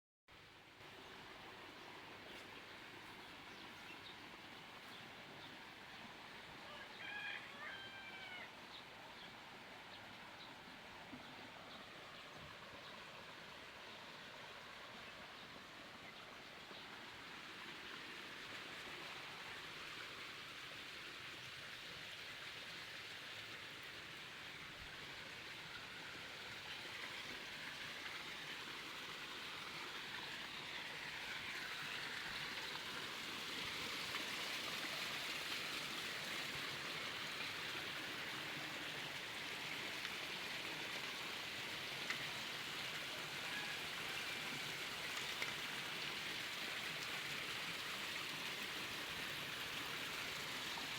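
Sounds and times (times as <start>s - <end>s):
flowing water rushing: 0.3s - 50.9s.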